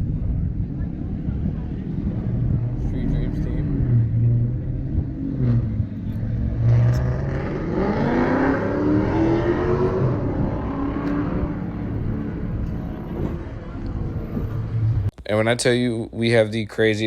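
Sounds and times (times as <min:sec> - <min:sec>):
car engine accelerating: 0:00.0 - 0:15.1.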